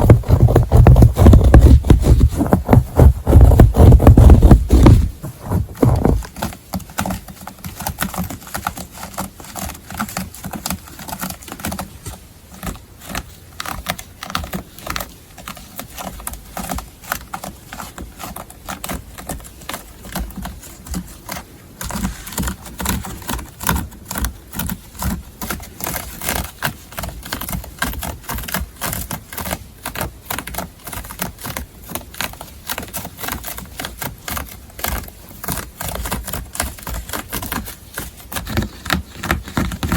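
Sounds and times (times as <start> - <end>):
scratching on textile: 0.0 - 39.9.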